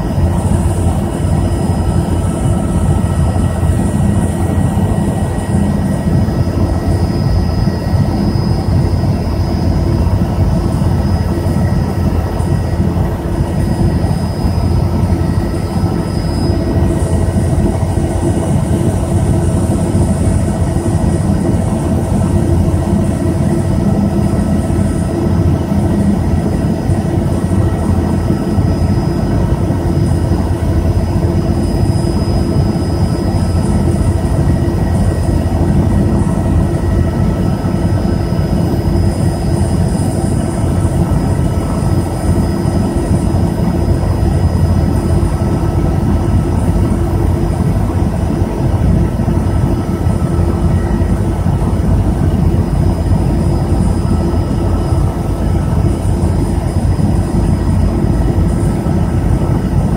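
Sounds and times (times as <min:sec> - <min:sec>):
helicopter rotor and engine drone: 0:00.0 - 0:59.9
thin high whine: 0:00.0 - 0:59.9.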